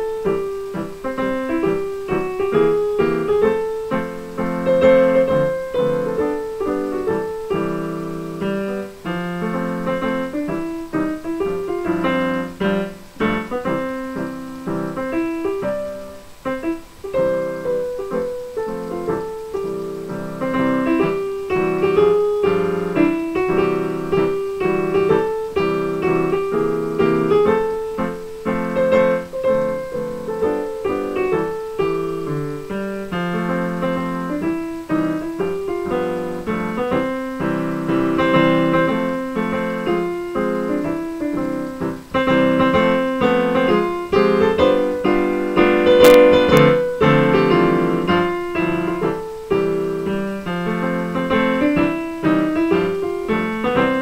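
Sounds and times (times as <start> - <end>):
piano chords and melody: 0.0 - 54.0.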